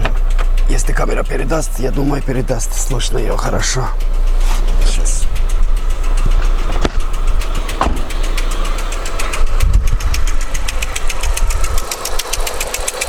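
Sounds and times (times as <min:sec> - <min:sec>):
car engine running: 0:00.0 - 0:13.0
fast even ticking knock: 0:00.0 - 0:13.0.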